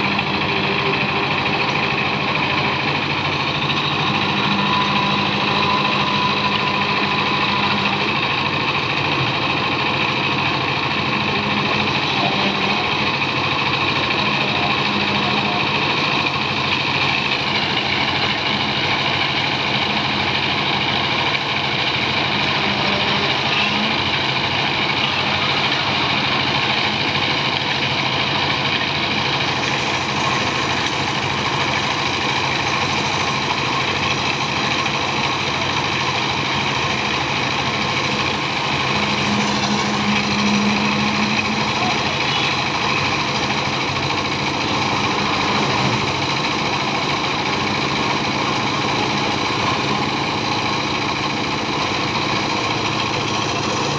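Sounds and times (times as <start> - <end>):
small engine running: 0.0 - 53.9.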